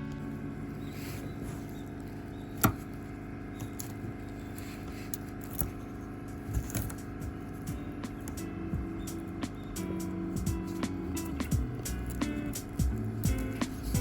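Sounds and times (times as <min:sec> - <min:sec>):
low hum of sustained tones: 0:00.0 - 0:14.0.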